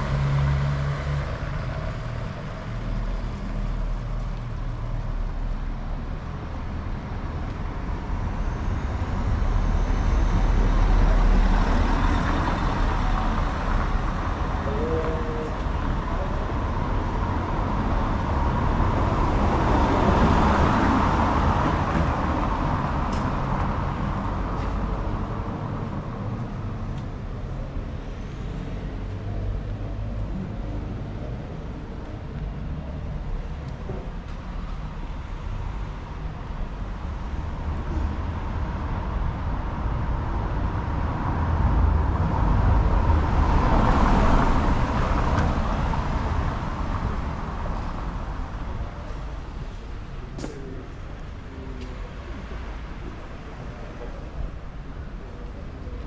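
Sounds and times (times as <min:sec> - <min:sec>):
low traffic rumble: 0:00.0 - 0:56.0.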